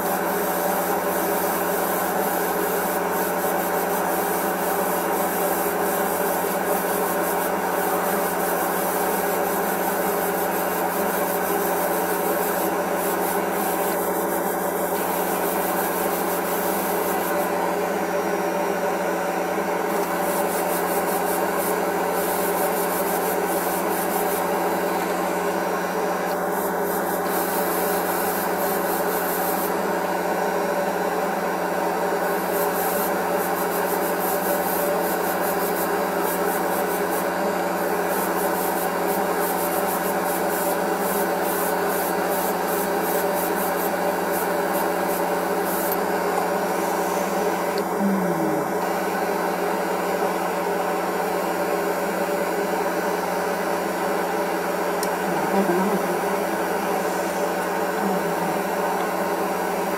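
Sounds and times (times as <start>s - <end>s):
airbrush hissing: 0.0s - 17.8s, 19.9s - 30.0s, 32.2s - 49.1s, 55.0s - 59.7s
compressor hum: 0.0s - 52.2s, 52.9s - 59.9s.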